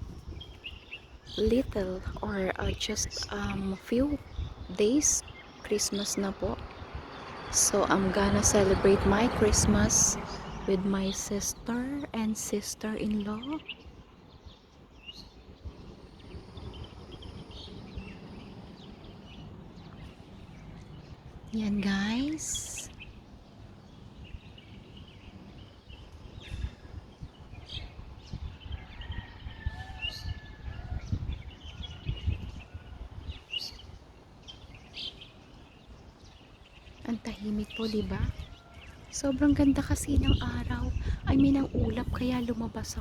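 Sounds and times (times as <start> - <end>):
small birds chirping: 0.0 - 43.0
wind rumble on microphone: 0.0 - 43.0.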